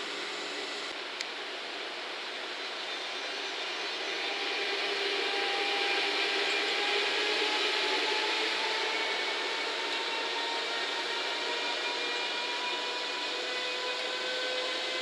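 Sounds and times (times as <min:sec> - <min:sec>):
electric locomotive motors whining: 0:00.0 - 0:00.9, 0:03.2 - 0:15.0.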